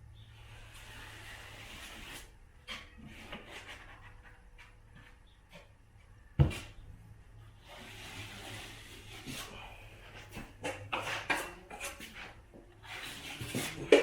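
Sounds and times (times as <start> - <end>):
taping knife scraping compound: 0.3 - 5.7, 7.5 - 14.0.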